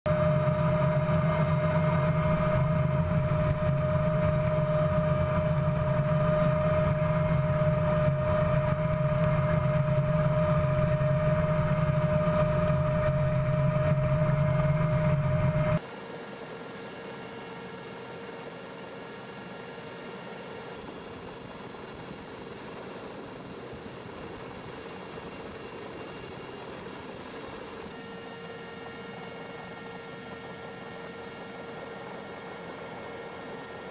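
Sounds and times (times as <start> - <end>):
helicopter rotor and engine drone: 0.1 - 33.9
helicopter whine: 0.1 - 33.9.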